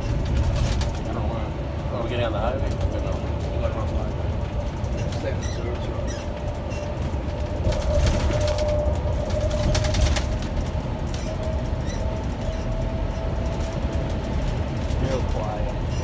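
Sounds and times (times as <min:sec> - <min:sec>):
low road rumble: 0:00.0 - 0:16.0
rattling and clattering: 0:00.0 - 0:16.0.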